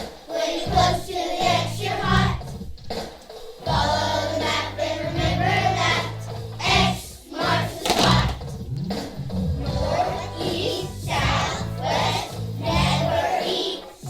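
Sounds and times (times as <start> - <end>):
children singing: 0.0 - 2.5, 3.7 - 8.5, 9.6 - 14.0.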